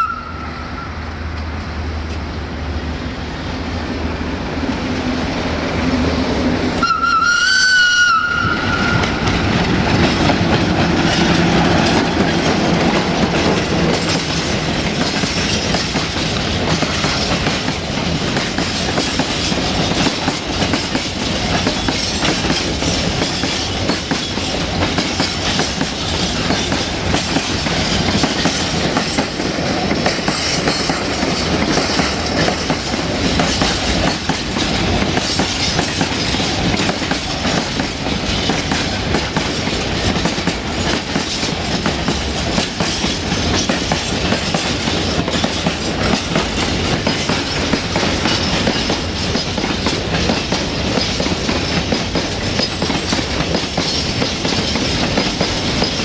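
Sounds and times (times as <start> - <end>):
freight train wheels rumbling: 0.0 - 56.0
clickety-clack over rail joints: 1.2 - 2.5, 6.8 - 56.0.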